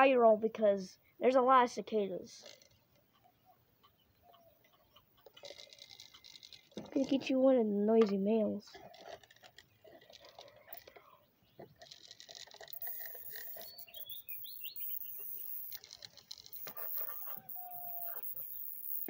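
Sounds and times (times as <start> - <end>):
birds chirping: 0.6 - 19.0.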